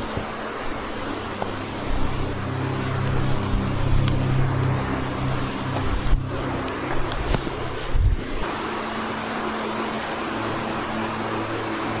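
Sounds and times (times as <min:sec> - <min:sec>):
ambient music of low notes: 0:00.0 - 0:12.0
steady rushing hiss: 0:00.0 - 0:12.0.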